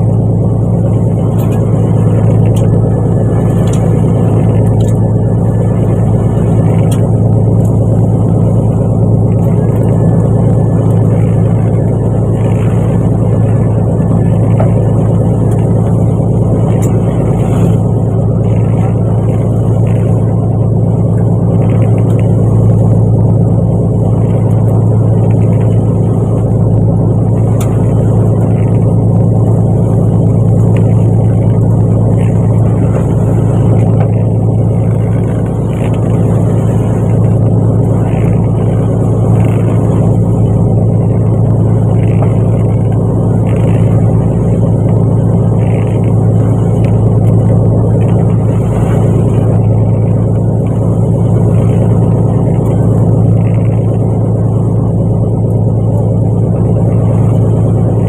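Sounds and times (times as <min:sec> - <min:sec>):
boat engine droning: 0:00.0 - 0:58.0.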